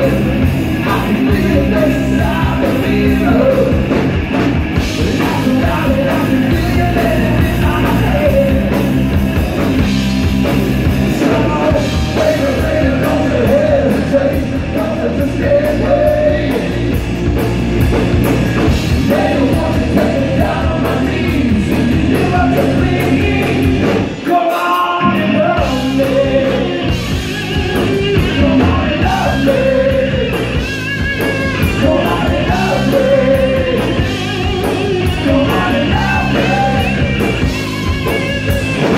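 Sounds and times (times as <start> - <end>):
man singing: 0.0 - 4.1, 4.9 - 8.9, 11.1 - 17.0, 18.9 - 37.8
bass guitar: 0.0 - 38.9
distorted electric guitar: 0.0 - 38.9
drums: 0.0 - 38.9.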